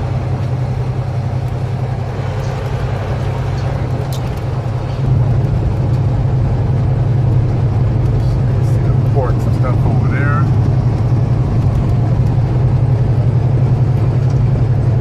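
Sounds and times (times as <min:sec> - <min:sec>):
road noise: 0:00.0 - 0:15.0
truck engine running under load: 0:00.0 - 0:15.0.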